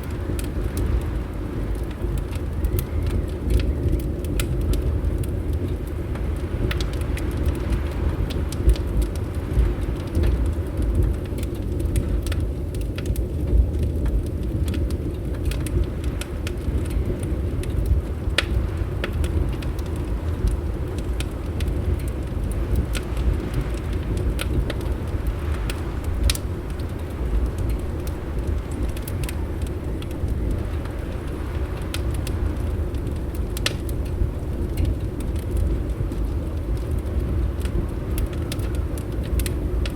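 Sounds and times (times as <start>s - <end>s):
fireplace crackling and popping: 0.0s - 39.9s
low wind rumble: 0.0s - 39.9s.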